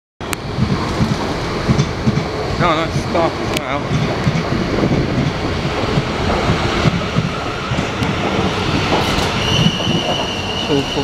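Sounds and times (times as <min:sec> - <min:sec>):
train rushing past: 0:00.2 - 0:11.0
wind buffeting microphone: 0:00.2 - 0:11.0.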